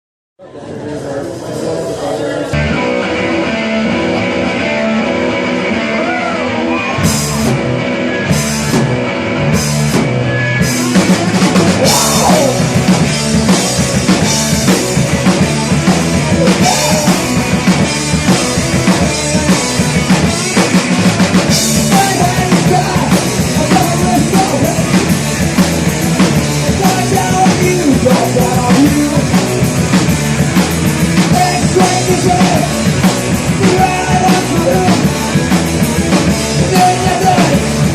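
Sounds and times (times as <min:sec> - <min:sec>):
electric guitar riff: 0:02.5 - 0:37.9
rock band playing: 0:02.5 - 0:37.9.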